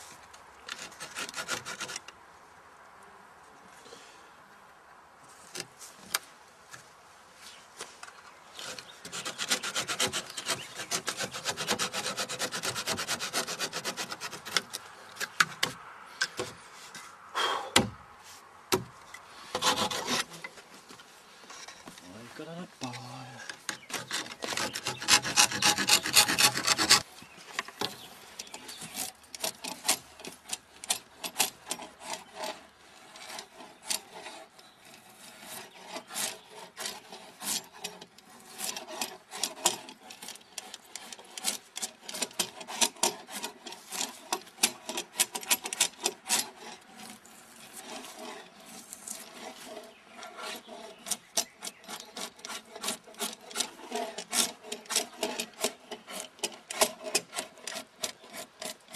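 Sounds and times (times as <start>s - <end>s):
drawknife scraping wood: 0.6s - 2.1s, 8.5s - 18.0s, 18.7s - 22.1s, 22.9s - 58.9s.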